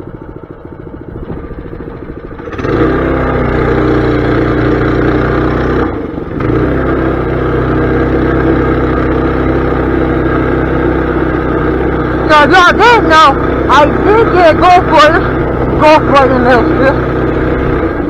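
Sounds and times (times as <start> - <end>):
small engine revving: 0.0 - 18.0.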